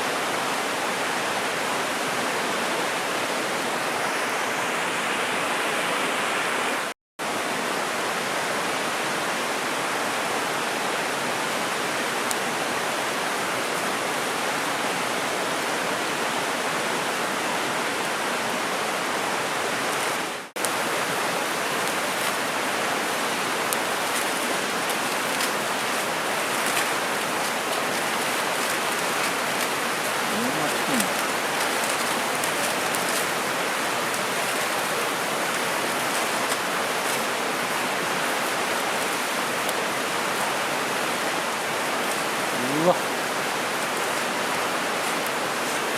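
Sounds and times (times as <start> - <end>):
mountain stream rushing: 0.0 - 45.9.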